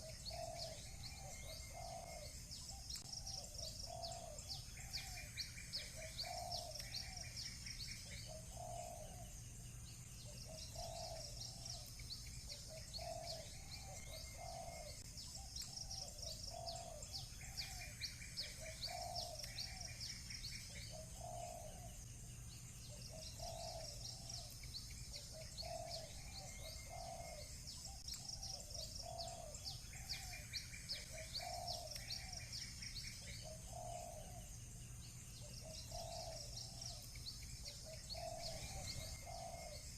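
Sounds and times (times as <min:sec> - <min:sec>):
doves cooing: 0:00.0 - 0:09.4, 0:10.2 - 0:22.1, 0:22.9 - 0:34.6, 0:35.4 - 0:39.9
small birds chirping: 0:00.0 - 0:39.9.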